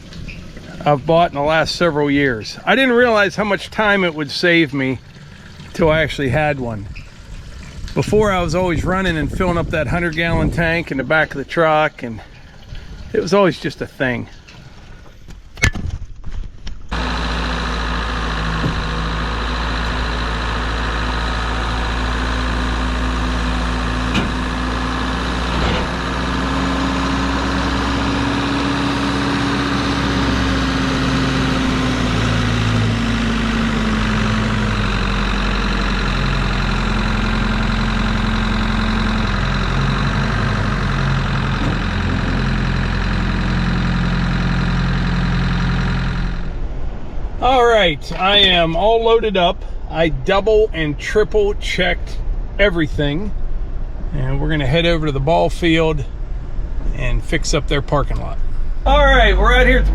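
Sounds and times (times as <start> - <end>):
engine running steadily: 0.0 - 13.2, 16.9 - 59.9.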